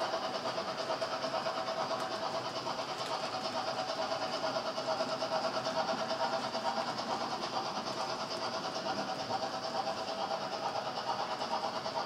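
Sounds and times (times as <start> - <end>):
model train wheels rattling on rail: 0.0 - 12.0.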